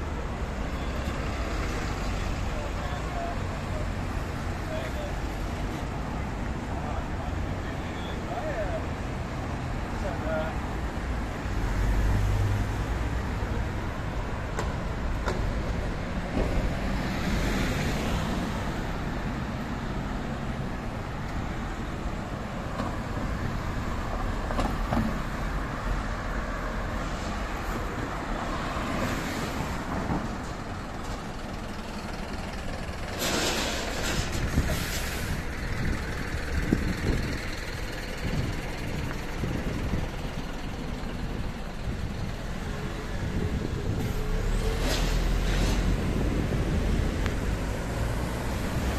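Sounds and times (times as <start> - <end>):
street traffic rumble: 0.0 - 48.9.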